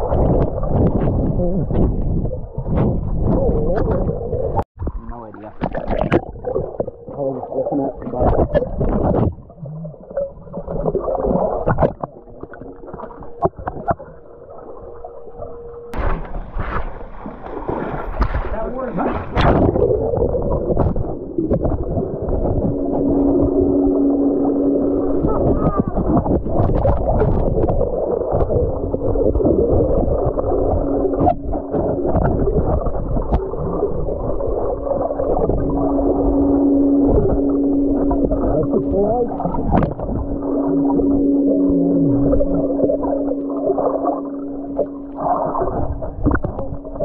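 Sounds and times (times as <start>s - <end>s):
steady hum: 0.0s - 47.0s
underwater water movement: 0.0s - 47.0s.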